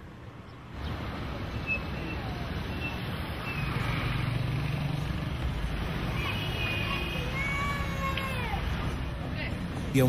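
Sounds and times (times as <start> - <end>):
passing vehicles: 0.0 - 10.0.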